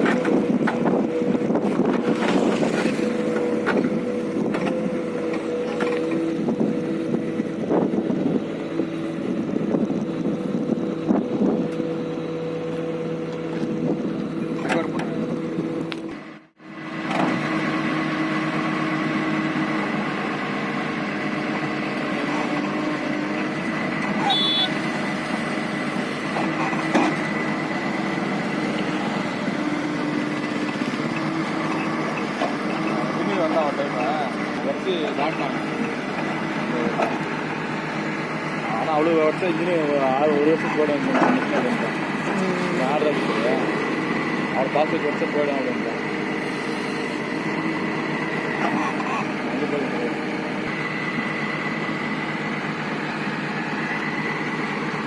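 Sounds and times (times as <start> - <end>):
constant whine: 0.0 - 55.0
excavator diesel engine running: 0.0 - 55.0.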